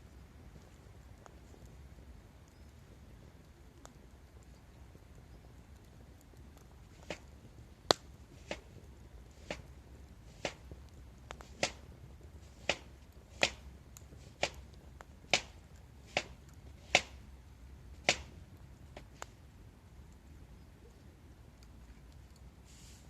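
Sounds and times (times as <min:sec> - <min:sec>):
campfire crackling and popping: 0:00.0 - 0:22.7.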